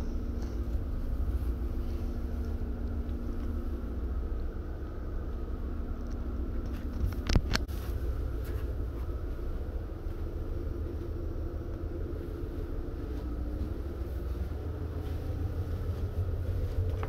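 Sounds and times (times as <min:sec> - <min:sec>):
ship machinery rumble: 0:00.0 - 0:17.0.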